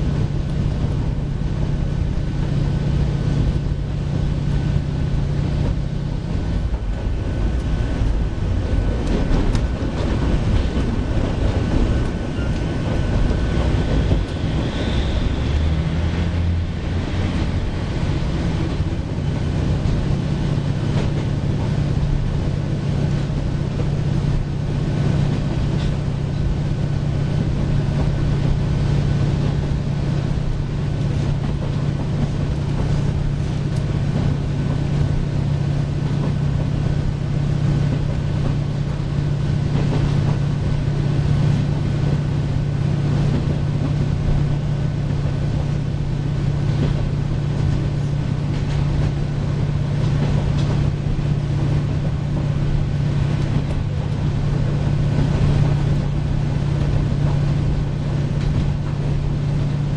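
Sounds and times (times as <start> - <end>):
diesel engine drone: 0.0 - 59.9
train rolling on track: 0.0 - 59.9.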